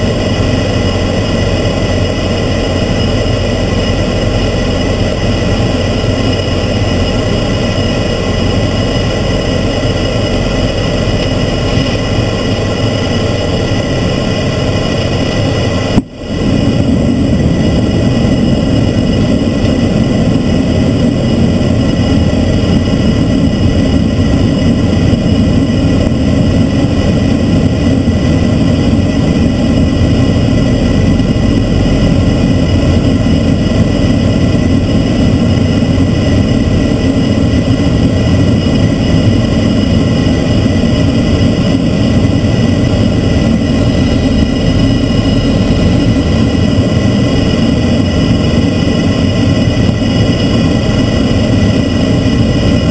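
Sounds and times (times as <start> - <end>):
deep turboprop engine drone: 0.0 - 52.9
thin steady engine whines: 0.0 - 52.9.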